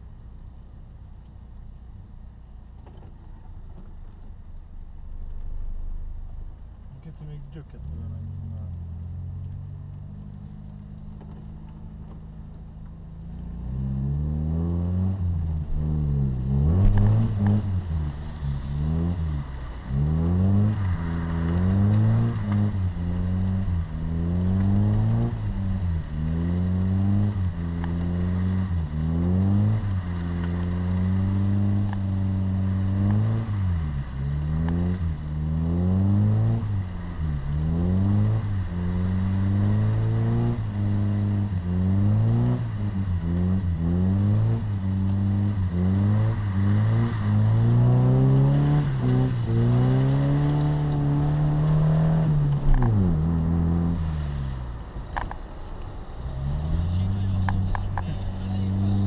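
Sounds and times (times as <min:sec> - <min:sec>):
car engine revving: 0:02.4 - 0:59.0.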